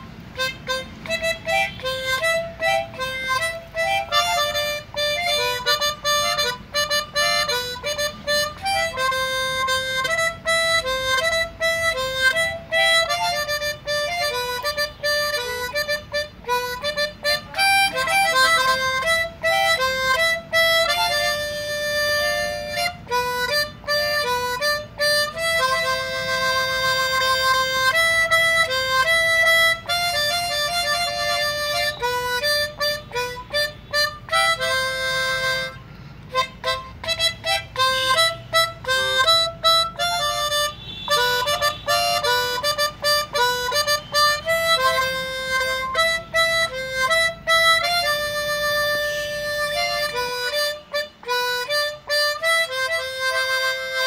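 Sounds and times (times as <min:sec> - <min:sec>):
instrumental music: 0:00.0 - 0:54.0.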